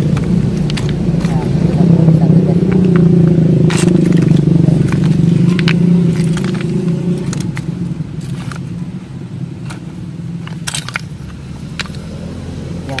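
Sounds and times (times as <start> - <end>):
stones clicking: 0.0 - 1.8, 2.6 - 8.9, 9.6 - 12.3
low steady hum: 0.0 - 13.0.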